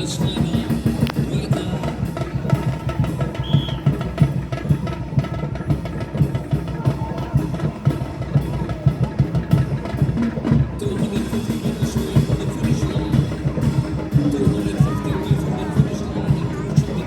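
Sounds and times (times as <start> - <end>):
drum-driven music: 0.0 - 17.0.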